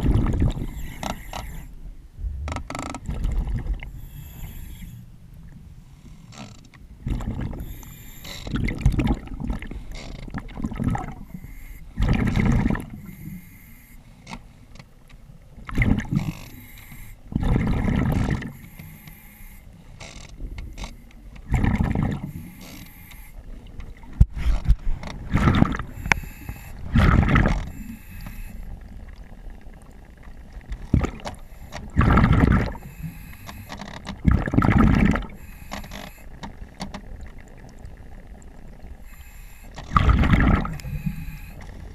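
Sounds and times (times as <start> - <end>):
underwater bubbles gurgling: 0.0 - 5.8, 6.9 - 13.4, 15.5 - 19.2, 20.4 - 41.9.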